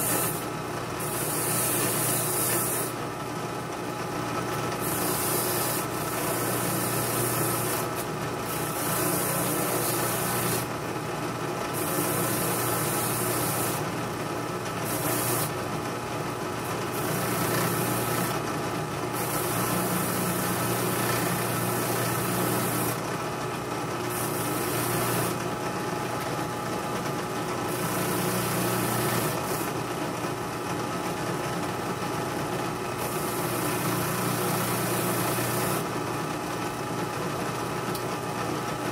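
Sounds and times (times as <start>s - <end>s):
drill press motor running: 0.0s - 38.0s.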